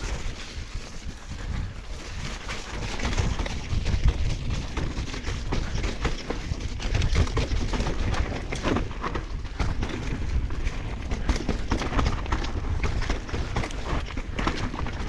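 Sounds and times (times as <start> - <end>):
bike clicks and rattles: 0.0 - 15.0
bike tyres rumbling on dirt: 0.0 - 15.0
wind on microphone: 0.0 - 15.0.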